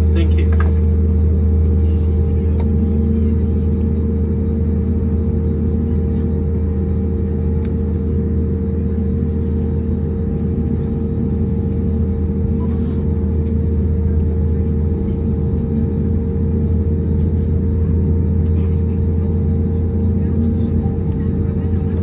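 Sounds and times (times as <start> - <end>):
aircraft cabin drone: 0.0 - 22.0.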